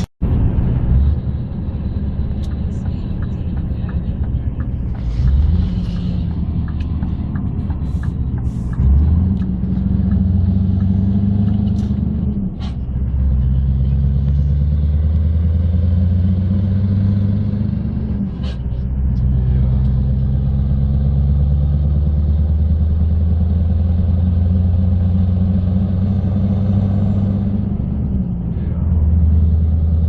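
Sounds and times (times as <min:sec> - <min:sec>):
truck diesel engine droning: 0:00.0 - 0:30.0.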